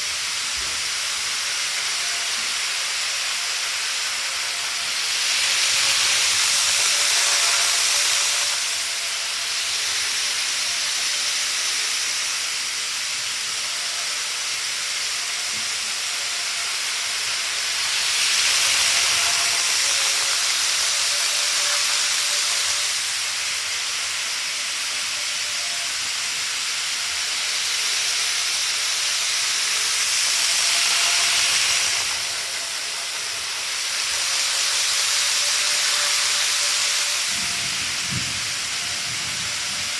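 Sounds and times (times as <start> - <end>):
faint motor whine: 0.0 - 39.9
model train wheels whirring: 0.0 - 39.9.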